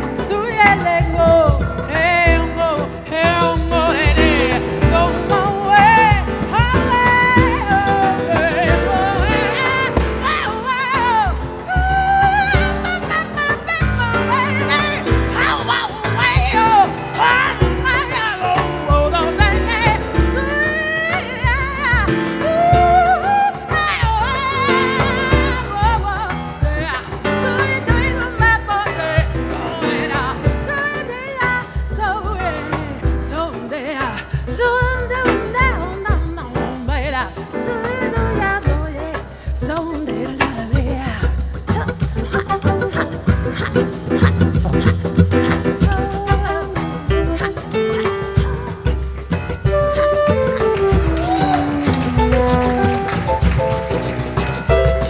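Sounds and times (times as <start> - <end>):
live band with singing: 0.0 - 55.0.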